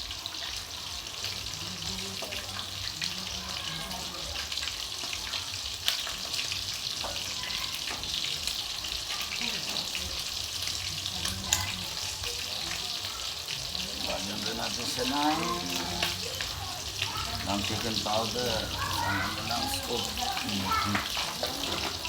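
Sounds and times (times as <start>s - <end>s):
gravy sizzling in saucepan: 0.0s - 22.0s.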